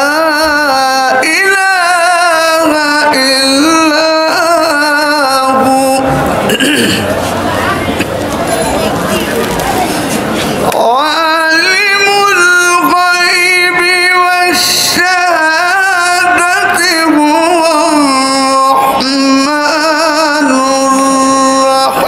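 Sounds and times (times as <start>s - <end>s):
man reciting melodically: 0.0s - 7.0s, 10.6s - 22.0s.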